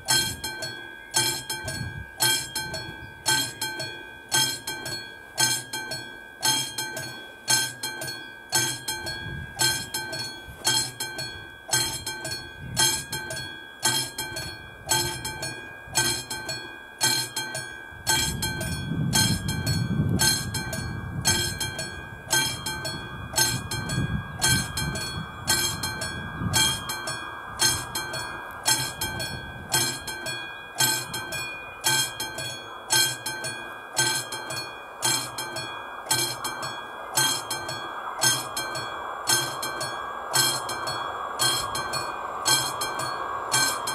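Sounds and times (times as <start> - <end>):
level crossing bell ringing: 0.0 - 43.9.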